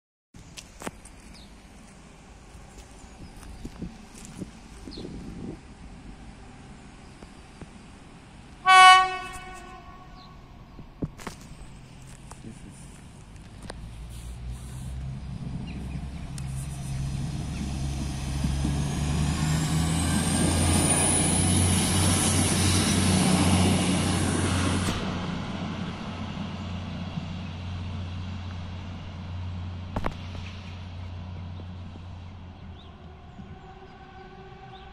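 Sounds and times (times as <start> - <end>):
railbus engine droning: 0.4 - 34.9.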